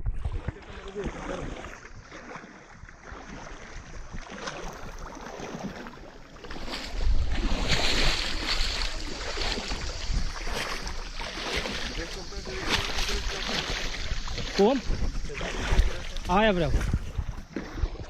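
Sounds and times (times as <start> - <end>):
water splashing around a canoe: 0.0 - 18.0
wind buffeting the microphone: 0.0 - 18.0.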